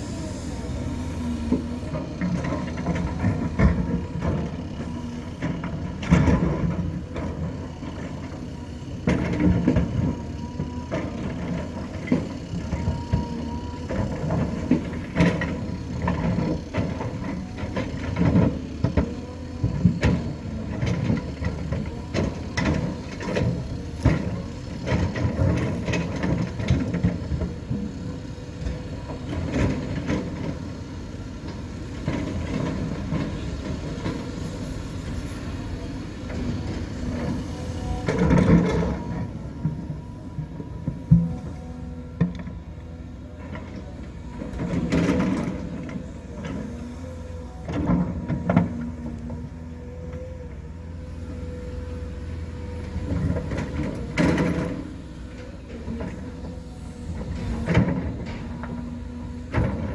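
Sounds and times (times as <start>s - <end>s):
diesel engine of heavy machinery: 0.0s - 59.9s.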